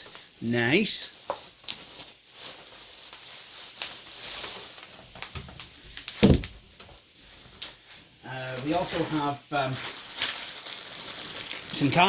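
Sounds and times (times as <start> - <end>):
rustling of packaging: 0.0 - 12.0.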